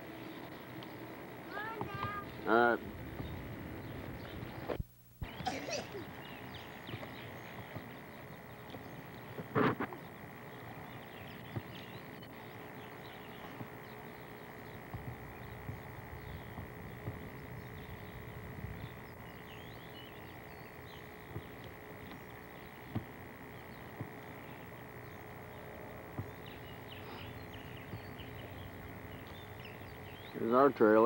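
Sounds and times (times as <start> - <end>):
faint bird chirps: 0.0 - 31.0
faint steady hum: 0.0 - 31.0.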